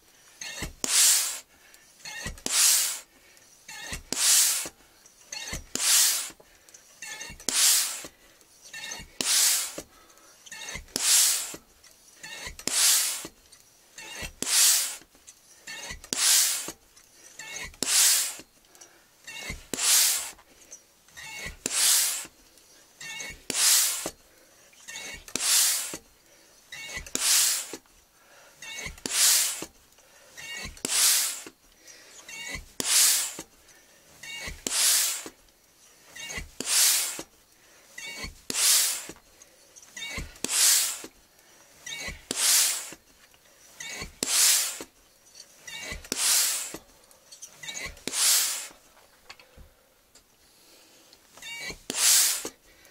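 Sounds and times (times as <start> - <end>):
hand pump air hiss: 0.0 - 35.4, 36.0 - 45.0, 45.6 - 48.9, 50.5 - 52.9.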